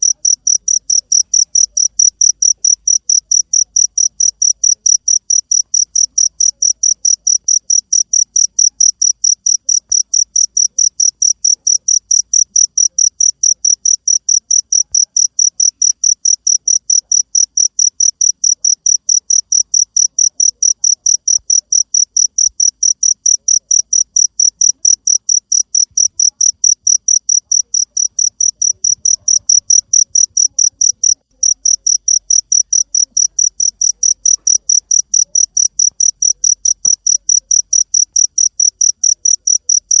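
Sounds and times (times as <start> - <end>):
cricket chirping: 0.0 - 40.0.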